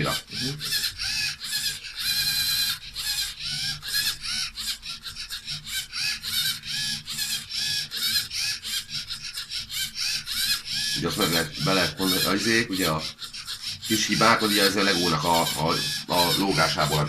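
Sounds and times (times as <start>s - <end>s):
plotter motors whining: 0.0s - 17.0s.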